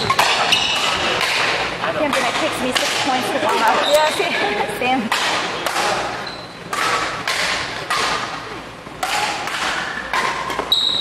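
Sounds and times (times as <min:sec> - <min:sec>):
rackets hitting shuttlecock: 0:00.0 - 0:04.0, 0:05.0 - 0:11.0.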